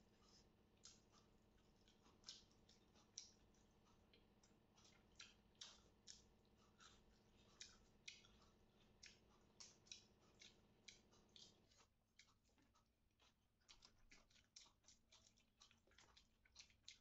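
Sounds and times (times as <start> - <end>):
mouths chewing with clicks: 0.0 - 17.0.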